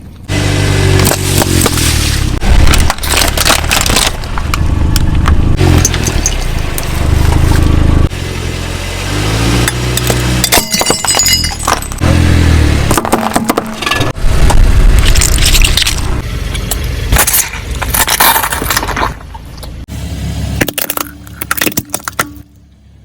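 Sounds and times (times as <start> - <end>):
objects crunching under tyres: 0.0 - 8.1, 9.3 - 19.9, 20.6 - 22.7
car engine running: 0.0 - 23.0.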